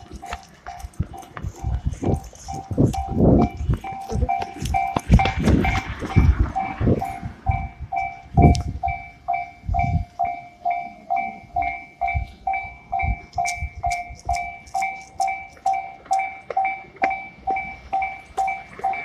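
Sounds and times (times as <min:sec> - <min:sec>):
level-crossing bell dinging: 0:00.0 - 0:19.0
train knocking: 0:00.0 - 0:19.0.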